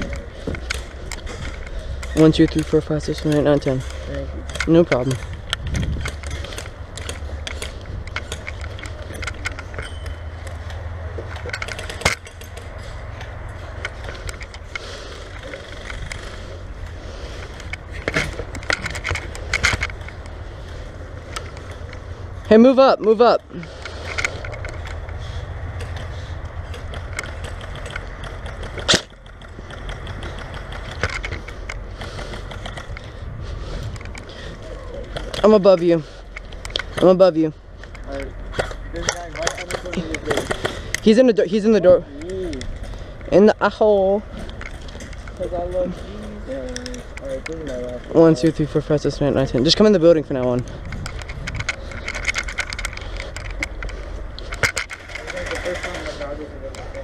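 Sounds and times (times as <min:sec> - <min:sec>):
steady low rumble: 0:00.0 - 0:22.6, 0:23.2 - 0:41.0, 0:41.6 - 0:57.0
gear clicking and rattling: 0:00.0 - 0:57.0.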